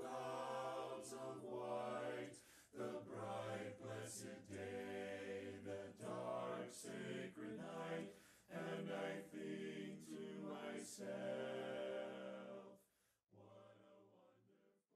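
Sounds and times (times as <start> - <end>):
men singing in harmony: 0.0 - 12.6.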